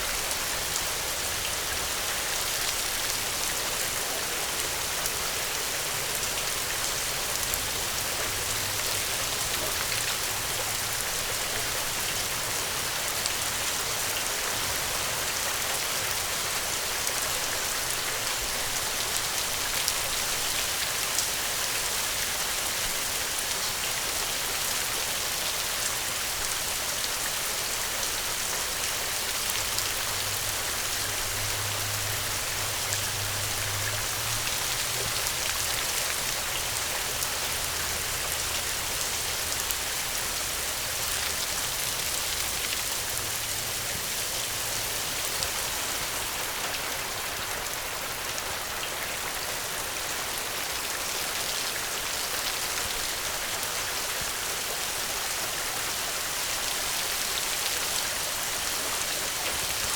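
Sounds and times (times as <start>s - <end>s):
dense rain hissing: 0.0s - 59.9s
individual raindrops: 0.0s - 59.9s.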